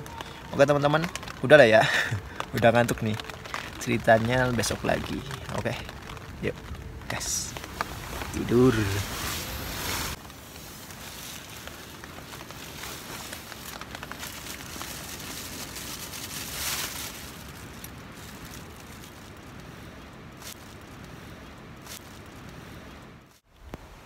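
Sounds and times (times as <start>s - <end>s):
storm wind rushing through trees: 0.0s - 24.0s.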